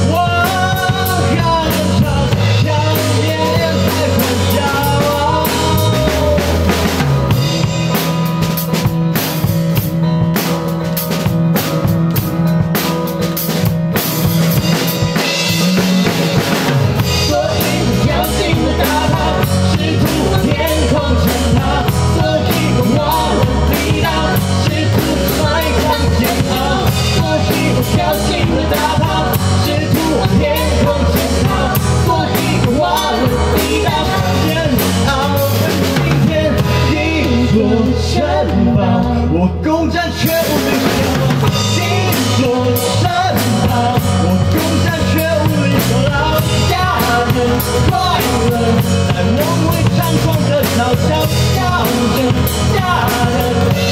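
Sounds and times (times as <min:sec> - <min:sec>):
bass line: 0:00.0 - 0:53.9
drum kit: 0:00.0 - 0:53.9
live rock band playing: 0:00.0 - 0:53.9.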